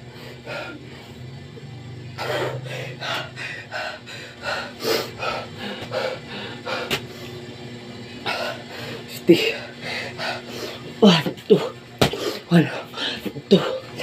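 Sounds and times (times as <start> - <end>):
person breathing hard: 0.0 - 1.2, 2.2 - 7.4, 8.2 - 14.0.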